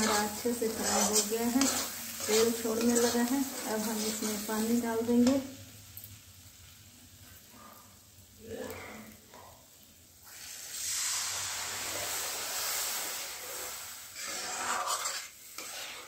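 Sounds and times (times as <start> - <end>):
water hissing in hot oil: 0.0 - 16.0.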